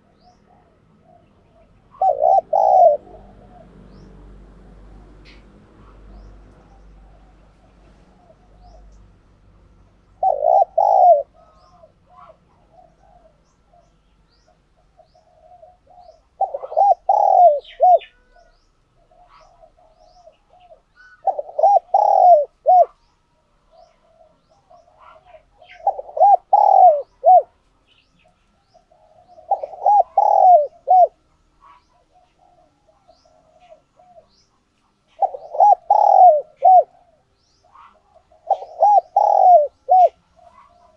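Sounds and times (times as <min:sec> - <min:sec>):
dove cooing: 0:00.0 - 0:04.1, 0:05.2 - 0:09.0, 0:10.0 - 0:23.1, 0:23.7 - 0:27.6, 0:28.6 - 0:40.9.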